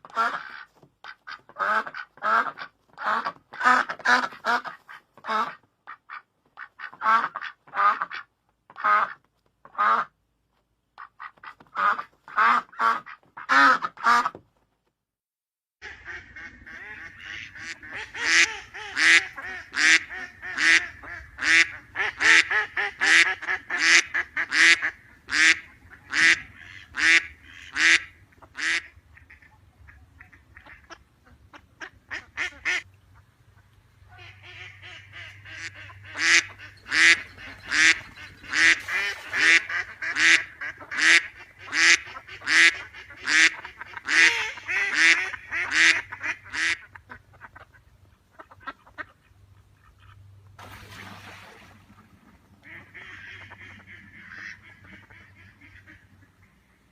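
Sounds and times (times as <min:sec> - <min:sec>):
ducks quacking: 0:00.0 - 0:10.1, 0:11.0 - 0:14.4, 0:15.8 - 0:50.5, 0:51.9 - 0:56.9.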